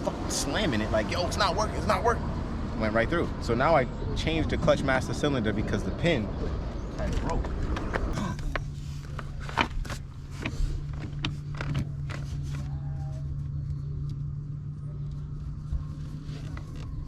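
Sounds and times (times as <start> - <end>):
steady low hum: 1.8 - 17.0.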